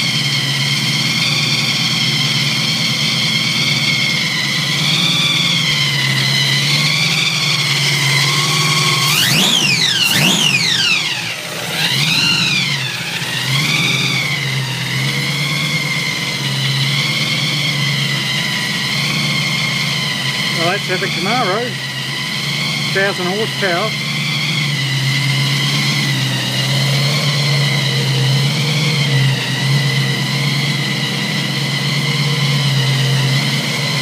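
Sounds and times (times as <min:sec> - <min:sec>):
car engine idling: 0:00.0 - 0:34.0
engine revving: 0:00.0 - 0:34.0
supercharger whine: 0:00.0 - 0:34.0.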